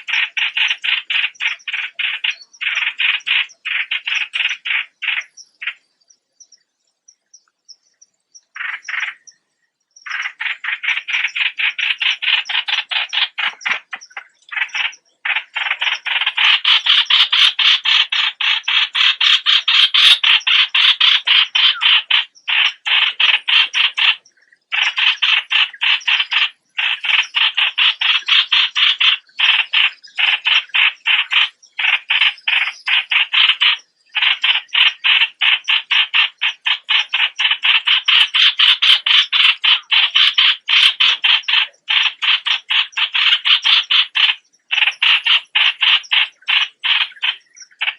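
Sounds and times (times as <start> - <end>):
bulbul chattering calls: 0.0 - 47.9.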